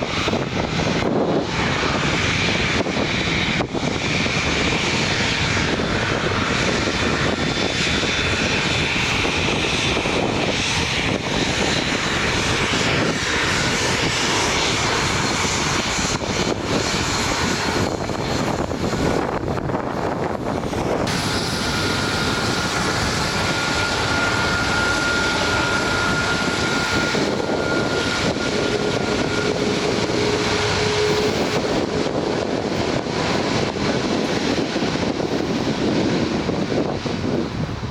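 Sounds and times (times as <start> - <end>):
jet engine noise: 0.0 - 37.9.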